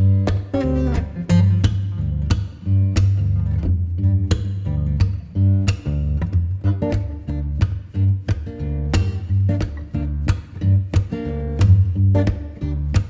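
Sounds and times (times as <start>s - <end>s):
acoustic guitar strumming: 0.0s - 13.0s
steady bass line: 0.0s - 13.0s.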